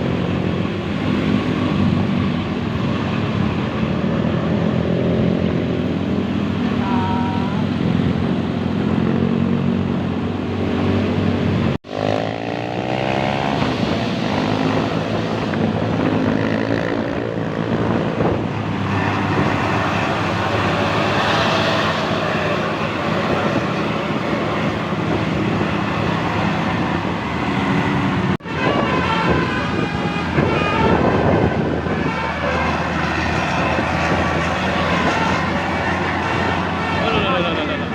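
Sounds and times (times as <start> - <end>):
vehicle engine and road noise: 0.0 - 37.9.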